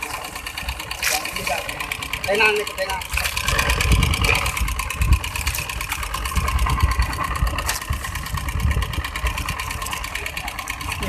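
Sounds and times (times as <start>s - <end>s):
small boat engine chugging: 0.0s - 11.0s.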